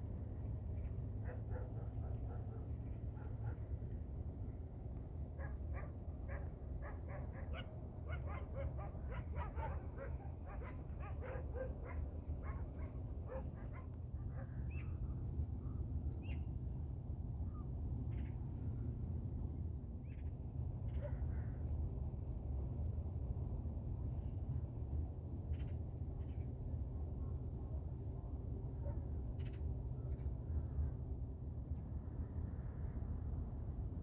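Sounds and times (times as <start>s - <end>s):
low wind rumble: 0.0s - 34.0s.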